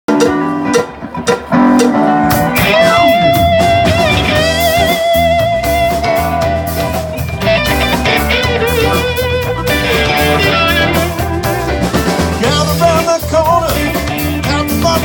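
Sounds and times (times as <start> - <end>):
plucked guitar notes: 0.1 - 15.0
rock band playing: 0.1 - 15.0.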